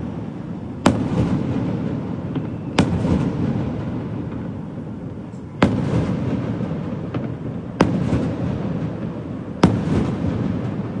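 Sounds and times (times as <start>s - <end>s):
fireworks bangs with crackle: 0.0s - 11.0s
low rumble of fireworks: 0.0s - 11.0s.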